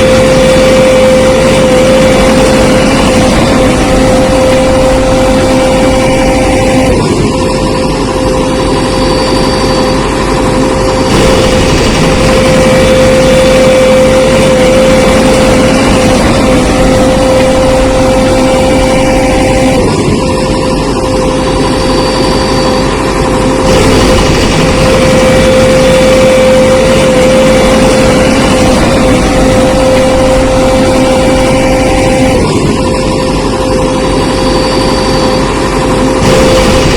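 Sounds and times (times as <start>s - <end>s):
cartoon tractor engine whine: 0.0s - 36.9s.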